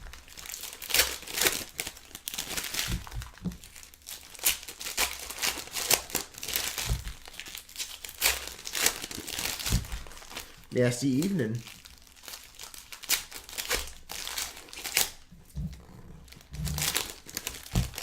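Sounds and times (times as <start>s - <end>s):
card pack wrappers crinkling: 0.0s - 15.3s, 16.2s - 18.0s.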